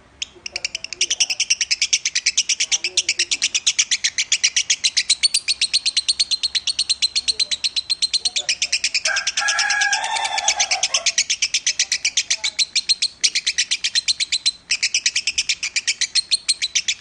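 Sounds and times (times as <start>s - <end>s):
lovebird chattering trill: 0.0s - 17.0s.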